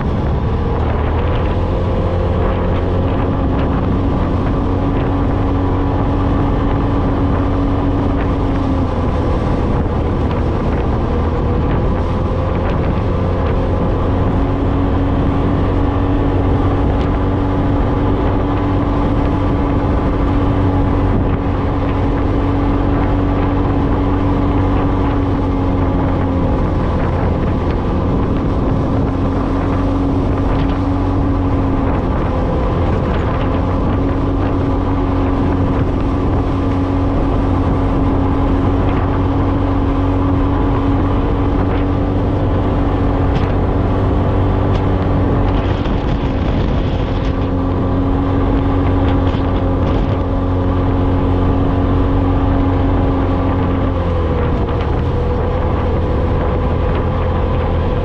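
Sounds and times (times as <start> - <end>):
off-road vehicle engine: 0.0 - 58.0.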